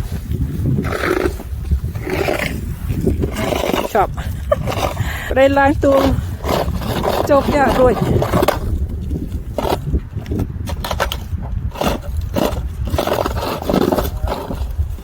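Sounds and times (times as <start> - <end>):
crunches on icy snow: 0.0 - 15.0
wind rumble on microphone: 0.0 - 15.0.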